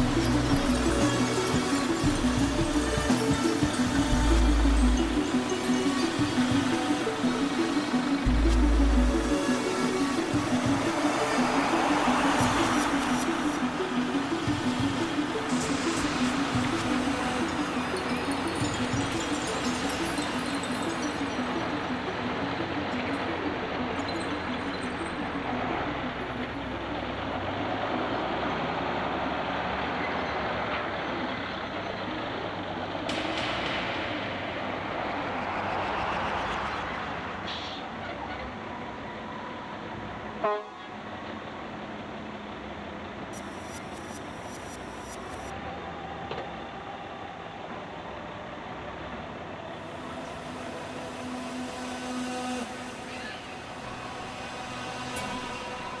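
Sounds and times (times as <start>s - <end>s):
truck engine rumbling: 0.0s - 56.0s.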